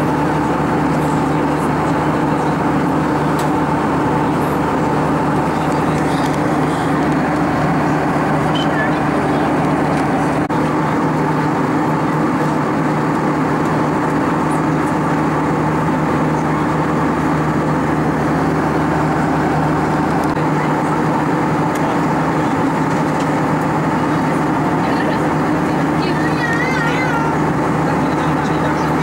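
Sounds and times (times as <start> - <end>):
jet engines in aircraft cabin: 0.0 - 29.0
low hums: 0.0 - 29.0.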